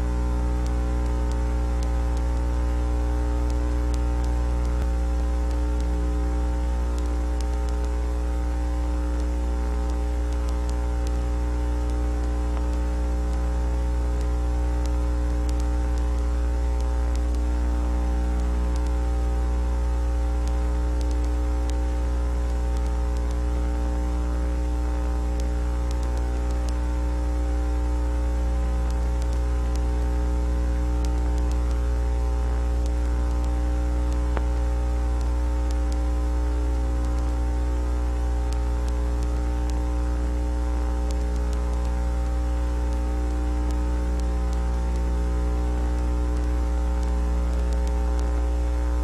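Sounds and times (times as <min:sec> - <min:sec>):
electrical mains hum: 0:00.0 - 0:49.0
static hiss: 0:00.0 - 0:49.0.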